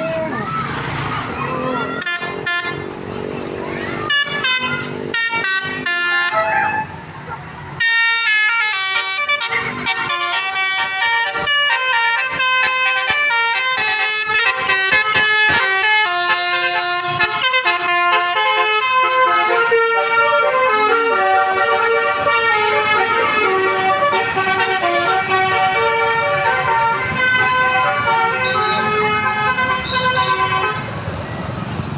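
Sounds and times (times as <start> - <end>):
multi-tone musical bus horn: 1.8 - 7.1, 7.7 - 31.2.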